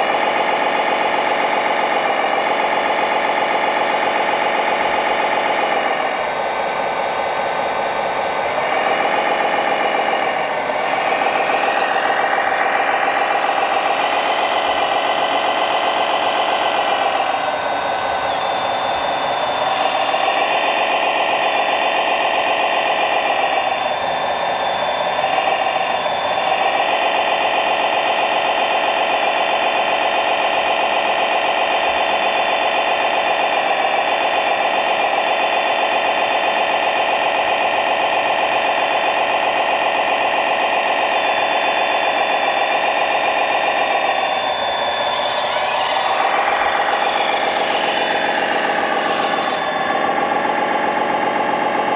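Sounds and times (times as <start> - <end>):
simulated diesel engine from speaker: 0.0 - 51.9
thin high whine: 0.0 - 51.9.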